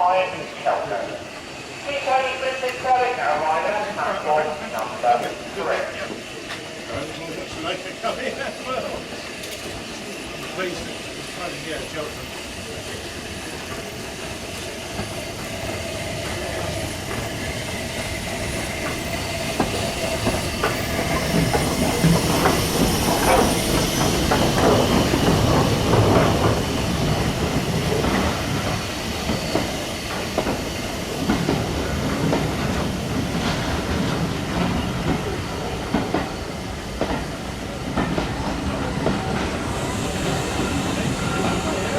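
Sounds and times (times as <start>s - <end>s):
steam train rolling past: 0.0s - 41.9s.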